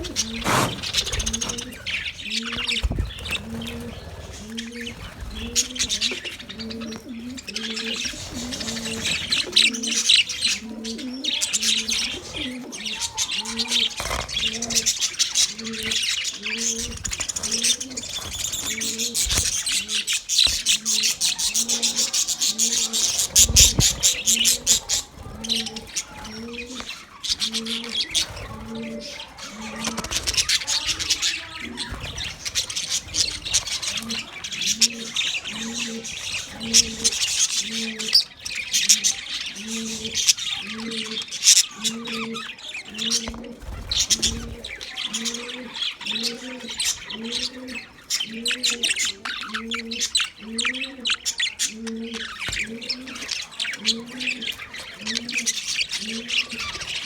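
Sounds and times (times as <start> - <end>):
budgerigars chattering and chirping: 0.0 - 57.0
low bird coo: 0.0 - 57.0.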